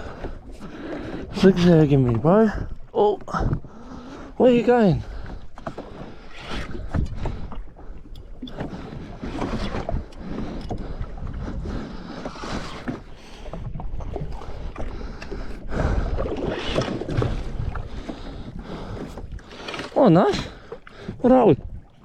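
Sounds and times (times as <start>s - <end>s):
wind buffeting microphone: 0.0s - 19.6s, 20.3s - 22.0s
sea noise: 0.0s - 22.0s.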